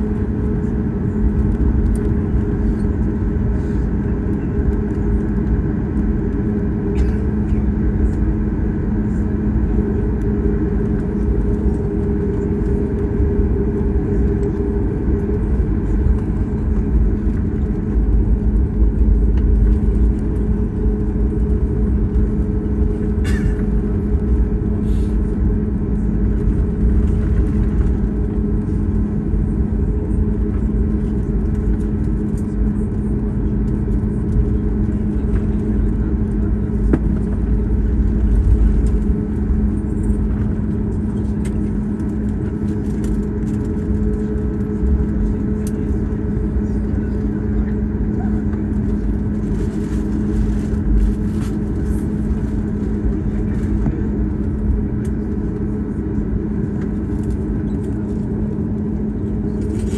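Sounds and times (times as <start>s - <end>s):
jet engines idling rumble: 0.0s - 59.9s.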